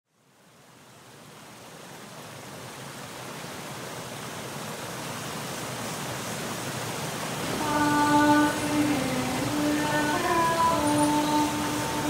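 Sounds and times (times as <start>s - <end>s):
stream rushing over rocks: 0.2s - 12.0s.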